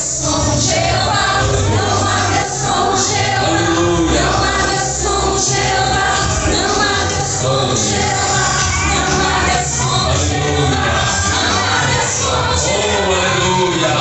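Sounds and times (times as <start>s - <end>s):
amplified accompaniment with bass: 0.0s - 14.0s
choir singing gospel: 0.0s - 14.0s.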